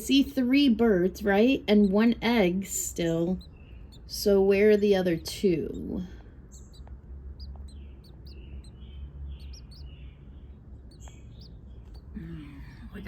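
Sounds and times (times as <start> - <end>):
nestling birds chirping: 0.0 - 13.0
steady low rumble: 0.0 - 13.0.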